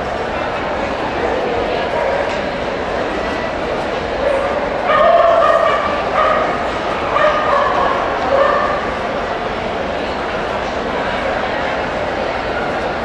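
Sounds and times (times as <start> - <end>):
crowd murmur in hall: 0.0 - 13.0.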